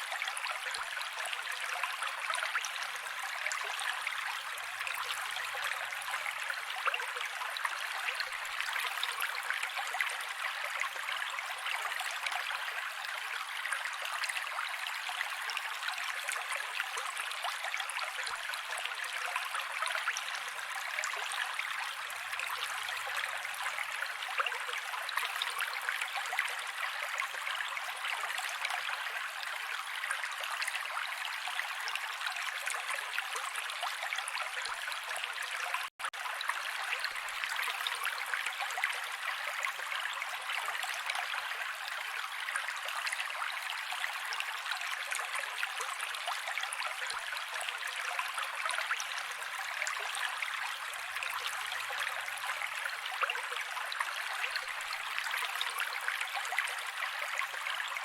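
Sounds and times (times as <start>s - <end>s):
creek water flowing: 0.0s - 58.0s.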